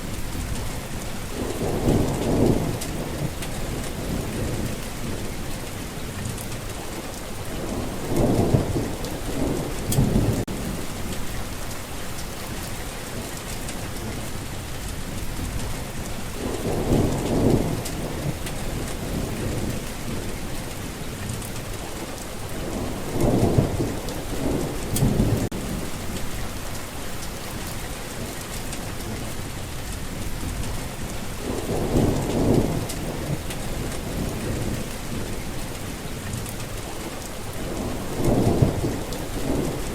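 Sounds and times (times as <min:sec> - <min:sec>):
thunder rumbling: 0:00.0 - 0:06.5, 0:07.4 - 0:21.8, 0:22.4 - 0:36.8, 0:37.4 - 0:39.9
heavy rain hissing: 0:00.0 - 0:39.9.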